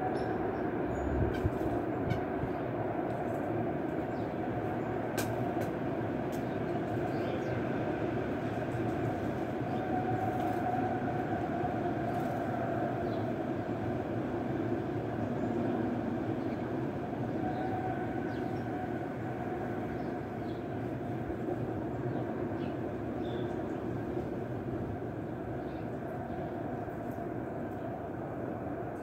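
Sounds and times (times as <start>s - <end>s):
steady rumbling noise: 0.0s - 29.0s.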